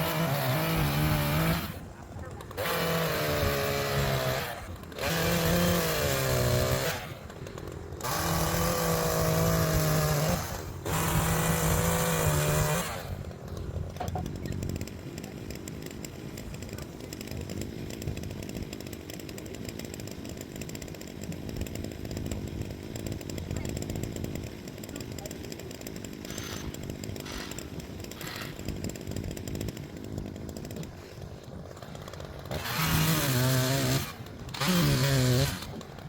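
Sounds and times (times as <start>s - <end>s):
chainsaw revving and idling: 0.0s - 36.0s.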